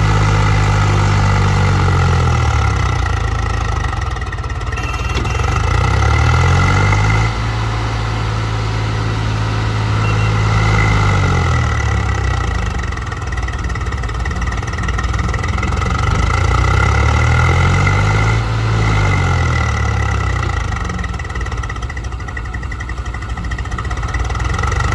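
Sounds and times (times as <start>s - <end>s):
diesel engine revving under load: 0.0s - 24.9s.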